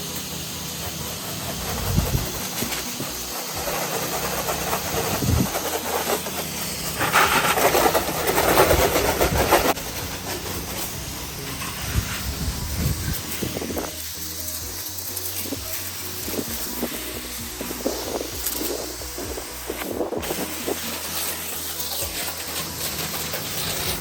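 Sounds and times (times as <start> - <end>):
high-pressure water spray hiss: 0.0 - 24.0
pressure washer engine hum: 0.0 - 24.0.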